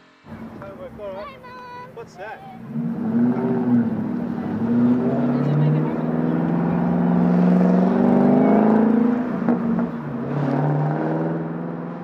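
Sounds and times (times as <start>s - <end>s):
car engine running: 0.2s - 12.0s.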